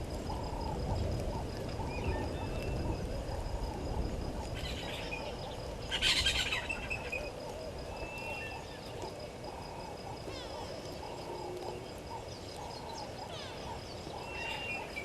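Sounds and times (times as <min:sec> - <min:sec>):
wild birds calling: 0:00.0 - 0:15.0.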